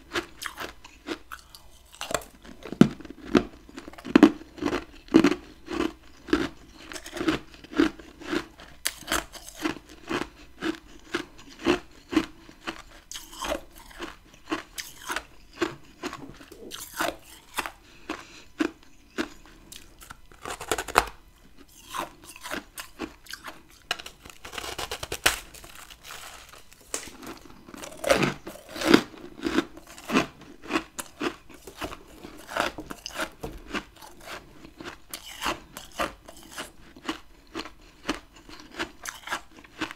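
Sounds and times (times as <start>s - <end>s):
chewing ice crunches: 0.1s - 39.9s.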